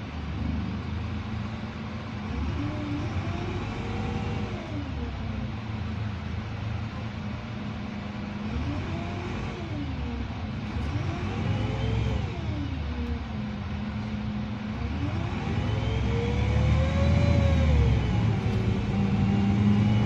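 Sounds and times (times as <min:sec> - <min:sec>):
bus engine rumble with whine: 0:00.0 - 0:20.0.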